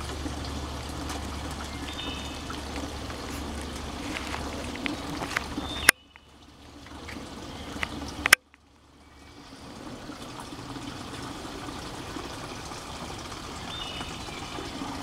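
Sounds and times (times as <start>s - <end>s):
water trickling into bottle: 0.0s - 15.0s.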